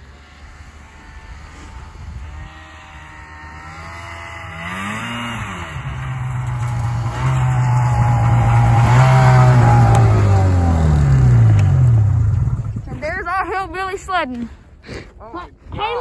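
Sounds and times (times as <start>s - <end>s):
snowmobile engine revving: 0.0s - 13.8s.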